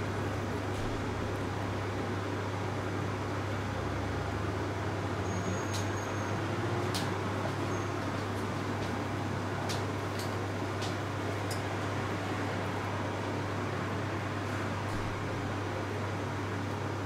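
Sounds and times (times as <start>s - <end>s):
air fryer hum and fan: 0.0s - 17.0s.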